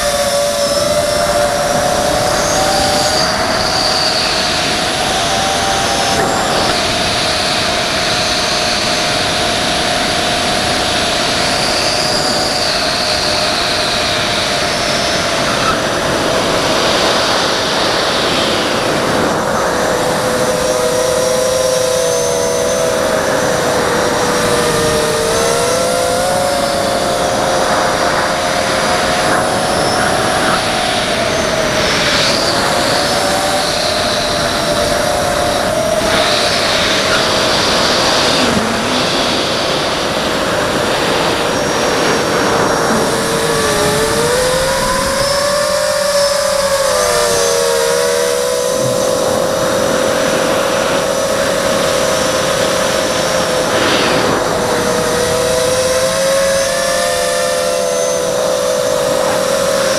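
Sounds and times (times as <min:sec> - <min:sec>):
drone motors buzzing whine: 0:00.0 - 0:59.9.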